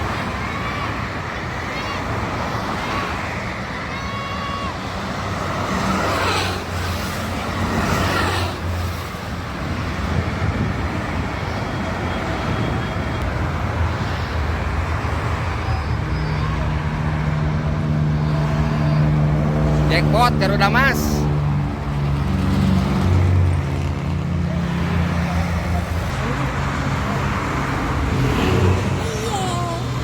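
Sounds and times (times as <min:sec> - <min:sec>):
traffic rushing past: 0:00.0 - 0:30.0
vehicle passing close by: 0:04.8 - 0:30.0.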